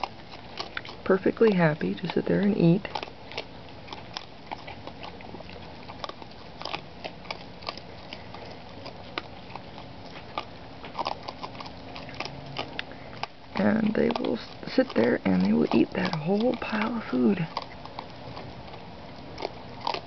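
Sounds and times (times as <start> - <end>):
raccoons crunching dry food: 0.0 - 20.0.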